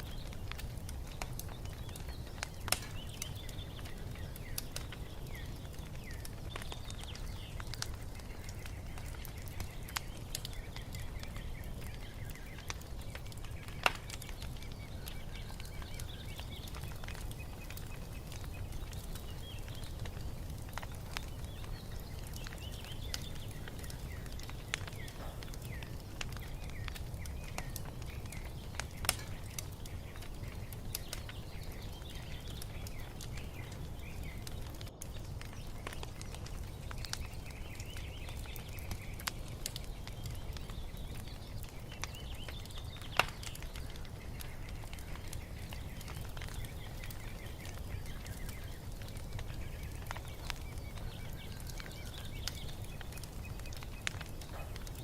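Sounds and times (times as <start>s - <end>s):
birds chirping: 0.0s - 55.0s
low fire rumble: 0.0s - 55.0s
wood fire crackling and popping: 0.0s - 55.0s.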